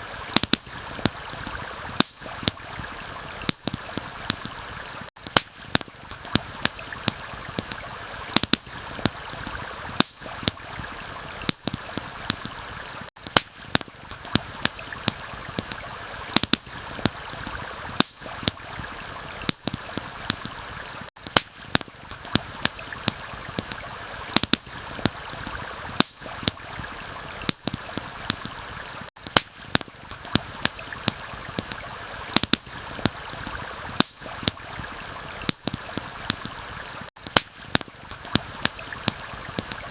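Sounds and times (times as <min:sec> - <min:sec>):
stream rushing: 0:00.0 - 0:29.1, 0:29.7 - 0:37.1, 0:37.7 - 0:39.9
campfire crackling and popping: 0:00.0 - 0:39.9.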